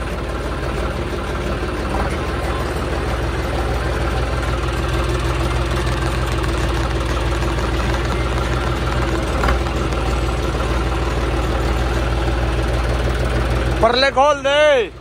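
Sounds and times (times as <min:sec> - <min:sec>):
dumper engine running: 0:00.0 - 0:15.0.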